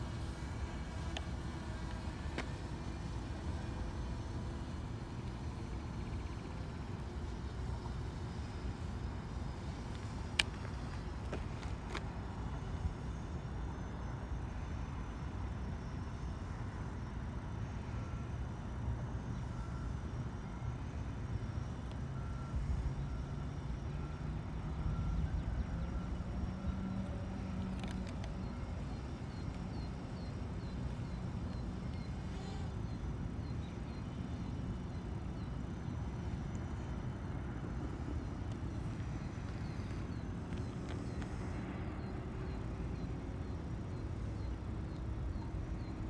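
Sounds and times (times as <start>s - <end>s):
distant road traffic: 0.0s - 46.0s.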